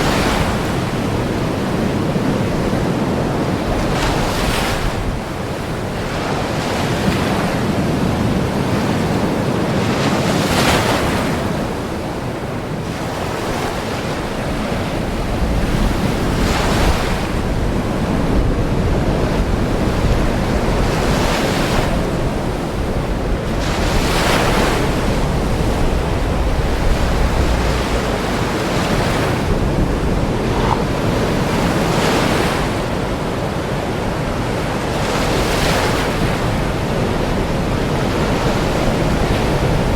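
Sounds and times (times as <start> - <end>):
deep rumble of heavy surf: 0.0 - 39.9
ocean waves breaking on shore: 0.0 - 39.9.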